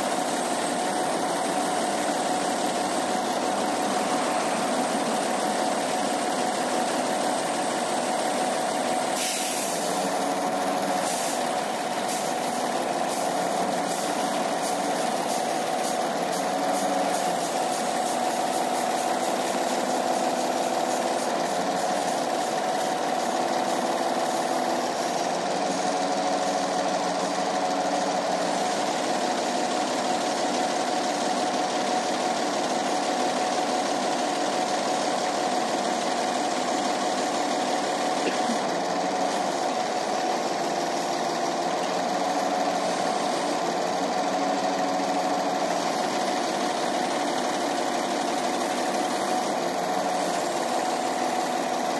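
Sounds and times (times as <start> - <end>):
truck engine running steadily: 0.0 - 51.9.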